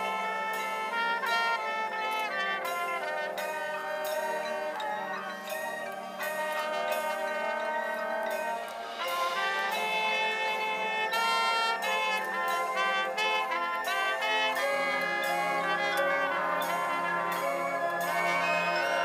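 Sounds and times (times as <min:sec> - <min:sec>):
marching band brass chords: 0:00.0 - 0:19.0.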